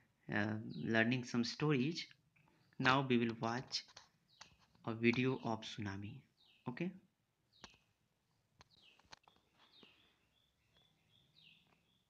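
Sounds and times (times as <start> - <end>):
bird chirping faintly: 0.3 - 12.0.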